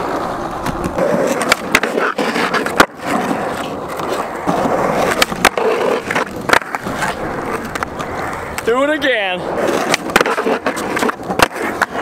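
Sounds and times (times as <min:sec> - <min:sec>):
skateboard clacking on concrete: 0:00.0 - 0:12.0
skateboard trucks grinding: 0:00.0 - 0:12.0.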